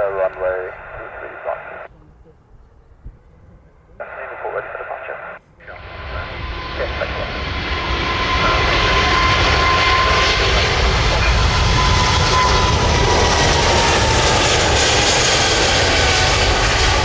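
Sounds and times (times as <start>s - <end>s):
jet engines passing: 0.0s - 2.3s, 3.0s - 17.0s.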